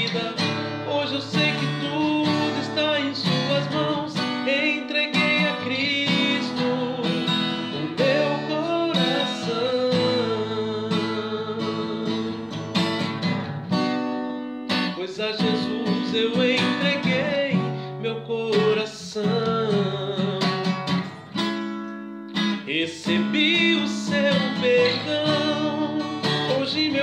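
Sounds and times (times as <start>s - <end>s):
man singing: 0.0s - 12.9s, 14.9s - 21.1s, 22.6s - 27.0s
acoustic guitar strumming: 0.0s - 27.0s.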